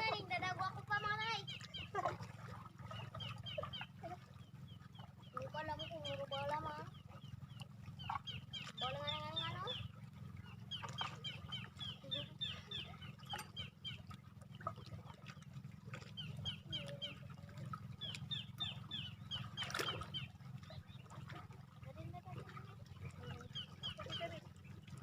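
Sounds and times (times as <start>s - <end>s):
birds chirping: 0.0s - 2.0s, 2.7s - 14.7s, 16.0s - 25.0s
steady low hum: 0.0s - 25.0s.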